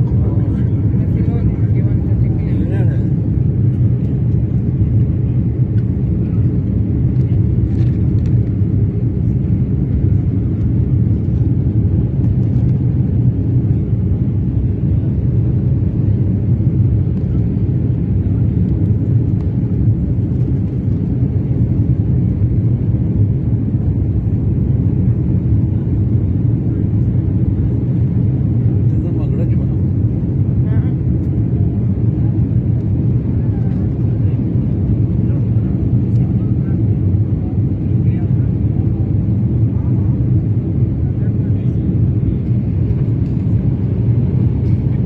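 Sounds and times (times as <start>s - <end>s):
jet engine rumble in cabin: 0.0s - 45.0s.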